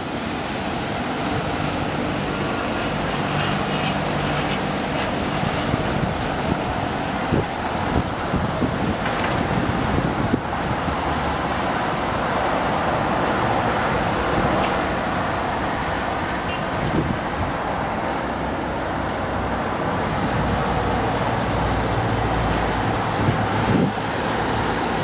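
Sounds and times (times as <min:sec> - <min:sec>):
strong wind blowing: 0:00.0 - 0:18.5, 0:19.4 - 0:25.0.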